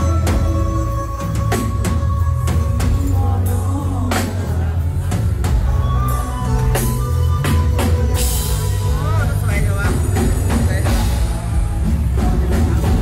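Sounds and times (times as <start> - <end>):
band music with drums and bass: 0.0 - 13.0.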